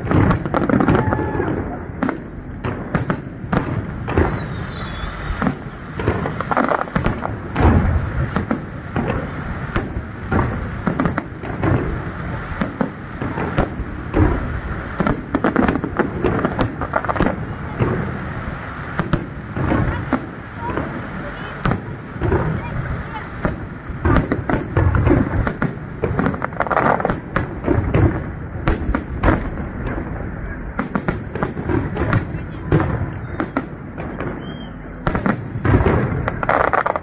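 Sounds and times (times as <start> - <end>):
continuous rumble: 0.0 - 37.0.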